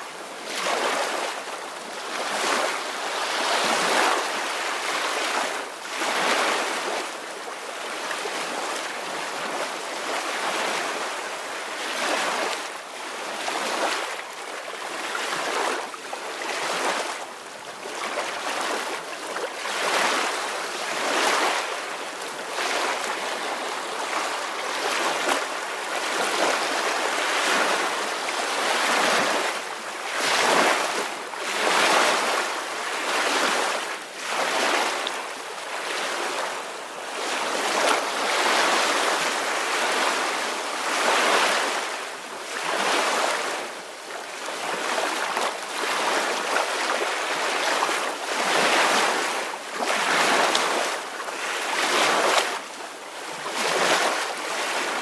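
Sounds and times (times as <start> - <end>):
soft ocean waves breaking: 0.0 - 55.0.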